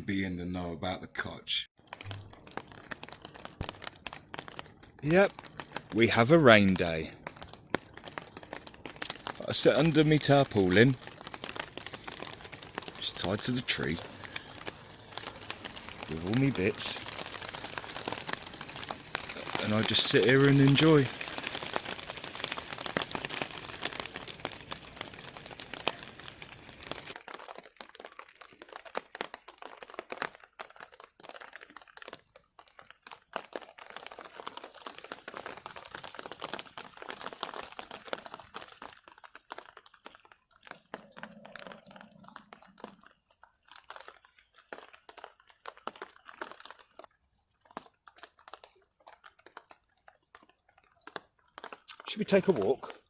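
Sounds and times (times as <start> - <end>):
rain pattering on a tarpaulin: 1.2 - 53.0.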